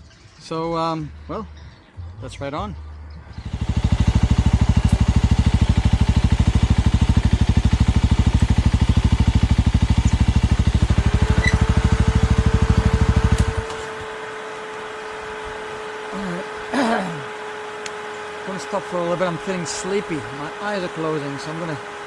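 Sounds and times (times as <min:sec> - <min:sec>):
mid-pitched whine: 0:00.0 - 0:22.0
motorcycle engine running: 0:02.8 - 0:22.0.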